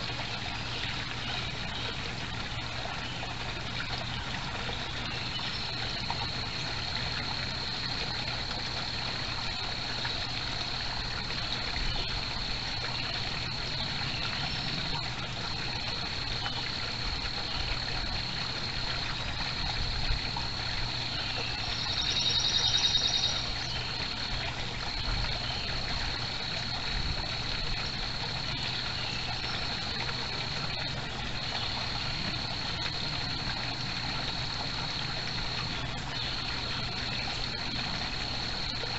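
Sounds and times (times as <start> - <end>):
pond water trickling: 0.0 - 38.9.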